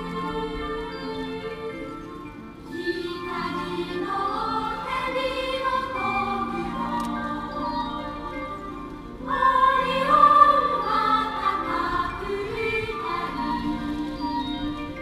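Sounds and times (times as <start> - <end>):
choir-like chords music: 0.0 - 15.0.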